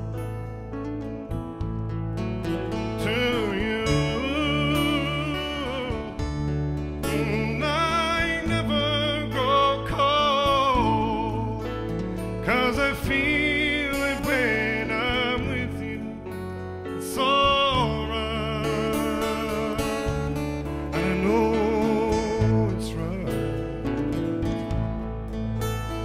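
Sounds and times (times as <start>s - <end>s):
low accompaniment: 0.0s - 26.0s
strummed acoustic guitars: 0.0s - 26.0s
man singing with vibrato: 2.7s - 23.9s.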